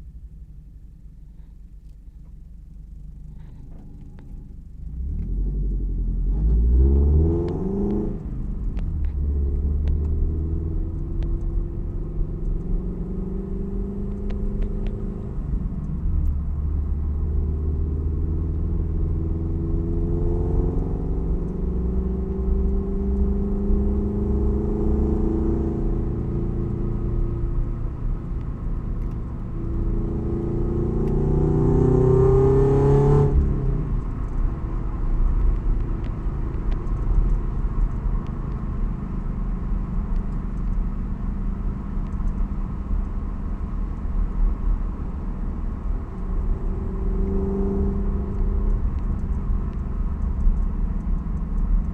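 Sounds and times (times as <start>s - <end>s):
car engine rumbling and revving: 0.0s - 51.9s.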